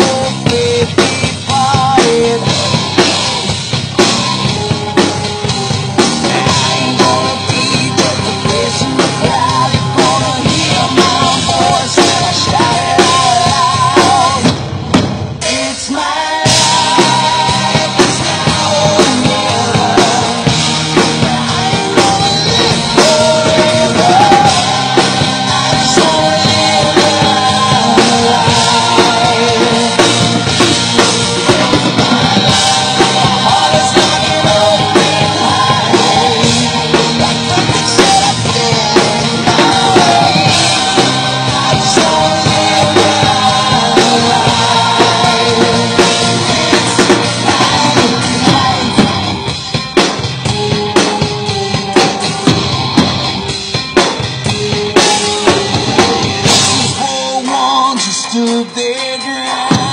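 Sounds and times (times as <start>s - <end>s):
acoustic drum kit: 0.0s - 59.9s
rock backing track: 0.0s - 59.9s.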